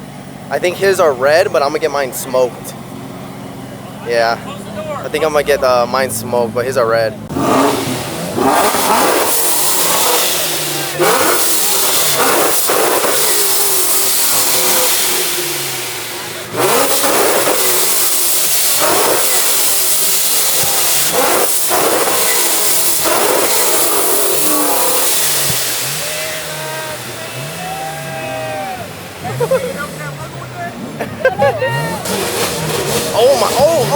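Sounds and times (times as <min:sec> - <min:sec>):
car engine revving hard: 0:00.0 - 0:33.9
crowd voices: 0:00.0 - 0:33.9.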